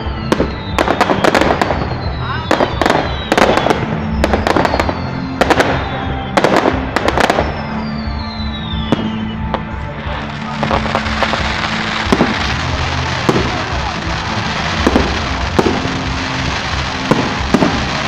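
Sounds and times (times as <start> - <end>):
firework bursts: 0.0 - 18.0
firework whistles: 0.0 - 18.0
music with held tones: 0.0 - 18.0.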